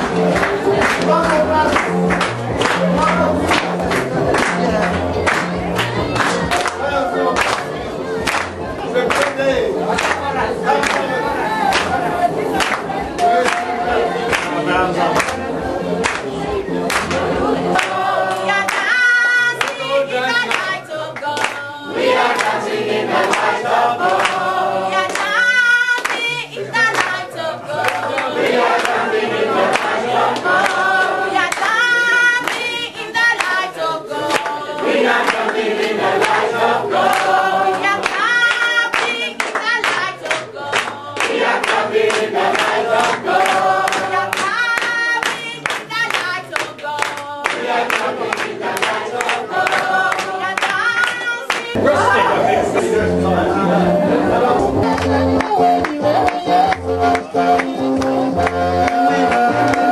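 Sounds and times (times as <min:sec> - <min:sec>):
group singing in chorus: 0:00.0 - 0:59.9
rhythmic hand clapping: 0:00.0 - 0:59.9.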